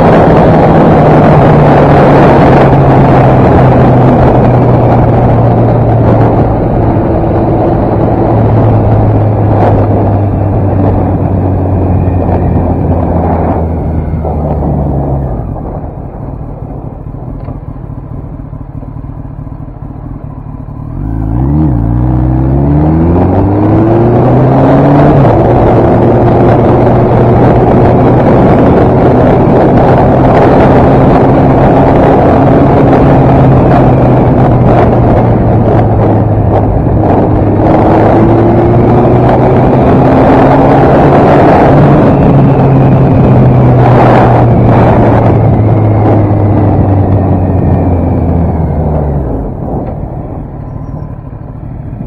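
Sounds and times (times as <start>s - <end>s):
motorcycle engine accelerating: 0.0s - 52.0s
wind rushing over microphone: 0.0s - 52.0s.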